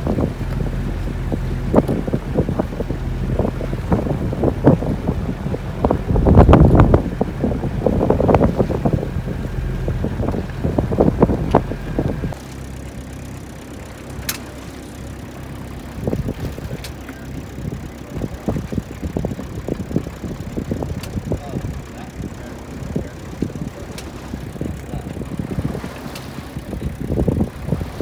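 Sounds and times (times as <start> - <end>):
boat noise: 0.0 - 28.0
water rushing: 0.0 - 28.0
wind buffeting microphone: 0.0 - 28.0.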